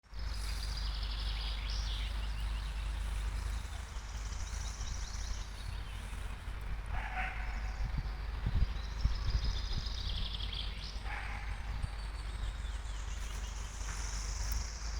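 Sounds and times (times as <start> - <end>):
songbirds trilling: 0.0 - 14.9
steady low rumble: 0.0 - 14.9.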